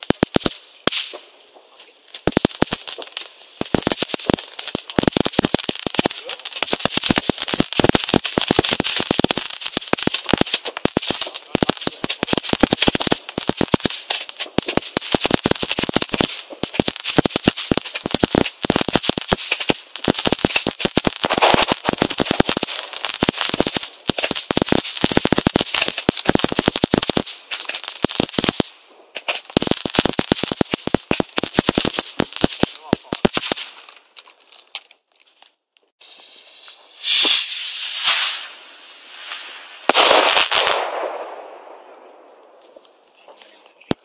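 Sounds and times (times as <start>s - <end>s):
firework fountain crackling: 0.0s - 35.0s, 35.9s - 44.0s.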